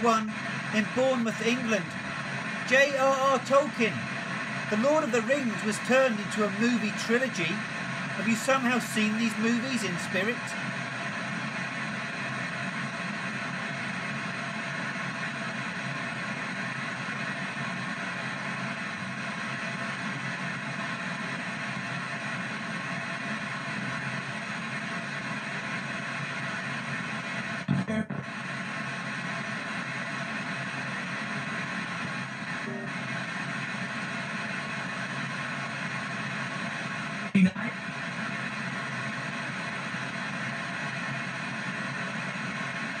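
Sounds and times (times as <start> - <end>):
radio static hiss: 0.0 - 43.0.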